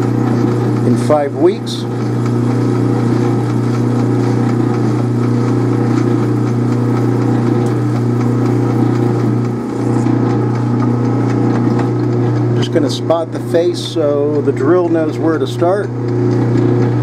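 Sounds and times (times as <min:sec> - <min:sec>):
lathe tool cutting metal: 0:00.0 - 0:16.7
metal lathe motor humming: 0:00.0 - 0:17.0.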